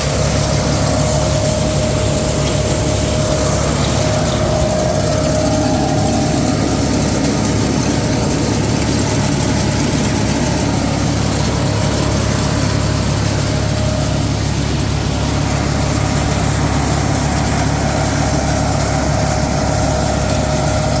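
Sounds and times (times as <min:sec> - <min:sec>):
harvesting machine engine drone: 0:00.0 - 0:21.0
thin machine whine: 0:00.0 - 0:21.0.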